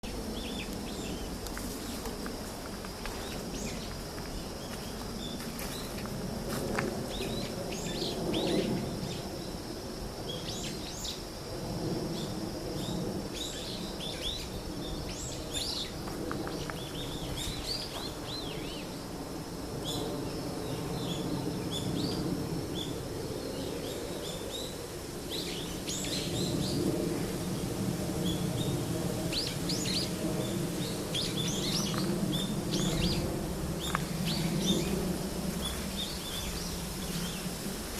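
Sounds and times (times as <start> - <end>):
wild birds chirping: 0.0 - 9.6, 12.1 - 19.0, 19.8 - 37.9.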